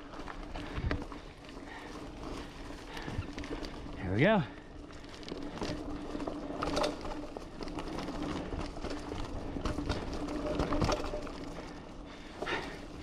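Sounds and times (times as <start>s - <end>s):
bike knocking and rattling: 0.0s - 13.0s
bike tyres rolling over dirt: 0.0s - 13.0s.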